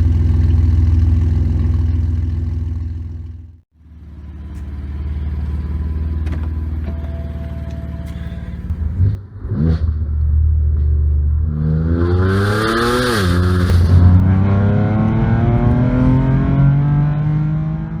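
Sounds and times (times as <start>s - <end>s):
car engine revving: 0.0s - 10.4s, 11.4s - 18.0s.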